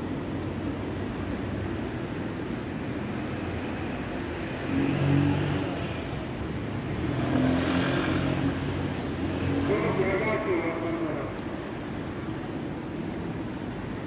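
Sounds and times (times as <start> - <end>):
car engines passing: 0.0 - 14.0.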